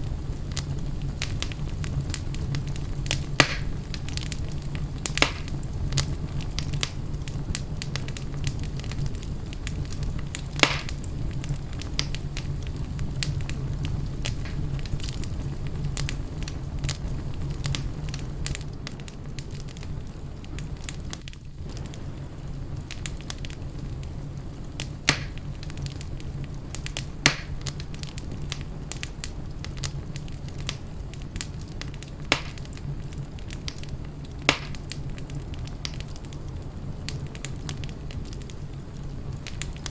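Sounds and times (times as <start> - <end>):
sharp pops from fire: 0.0 - 39.9
wood fire rumbling and crackling: 0.0 - 39.9.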